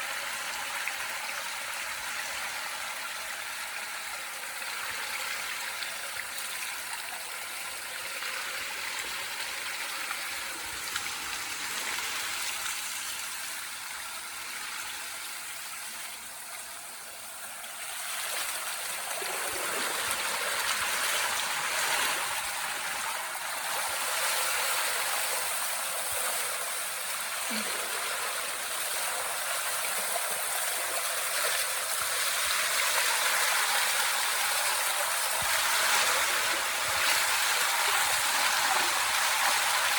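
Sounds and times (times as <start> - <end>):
water trickling through a drain: 0.0 - 39.9.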